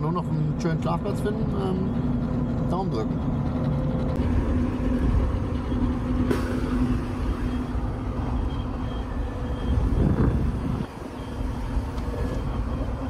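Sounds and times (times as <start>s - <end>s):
low engine and road drone: 0.0s - 13.0s.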